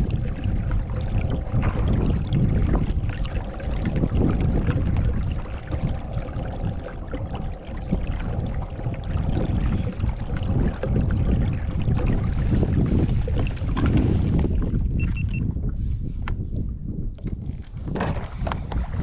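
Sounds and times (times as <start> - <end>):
water washing along kayak hull: 0.0 - 16.1, 17.5 - 19.0
low rumble: 0.0 - 17.2.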